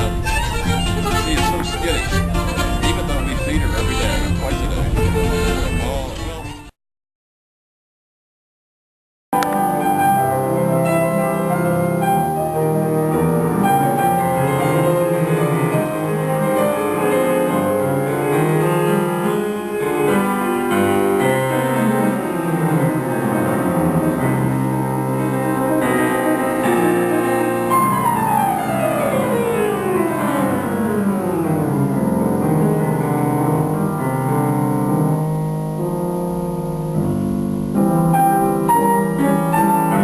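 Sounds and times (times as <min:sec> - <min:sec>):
solo piano classical piece: 0:00.0 - 0:06.4, 0:09.4 - 0:40.0.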